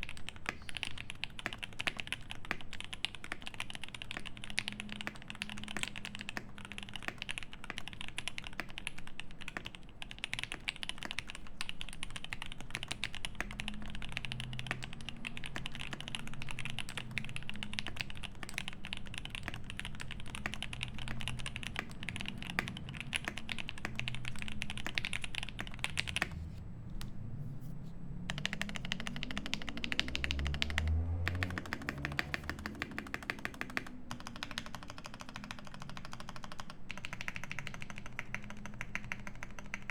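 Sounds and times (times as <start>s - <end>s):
fast mechanical keyboard typing: 0.0s - 26.5s, 28.3s - 39.9s.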